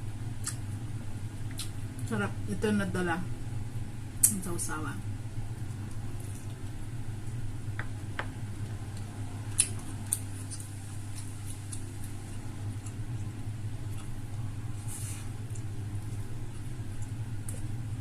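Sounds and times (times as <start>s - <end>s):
steady low hum: 0.0s - 18.0s
soft chewing: 0.4s - 2.1s, 5.3s - 18.0s.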